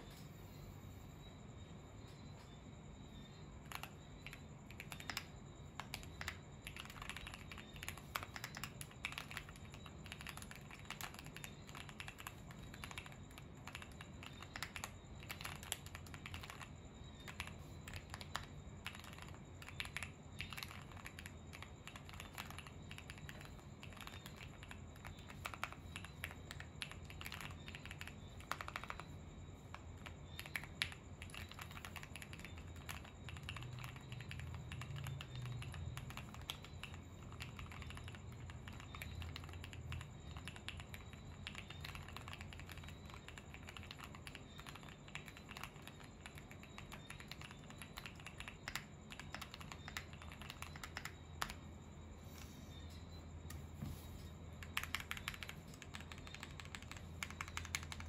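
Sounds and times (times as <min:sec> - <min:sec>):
mechanical keyboard typing: 0:03.6 - 0:51.6, 0:54.5 - 0:58.0.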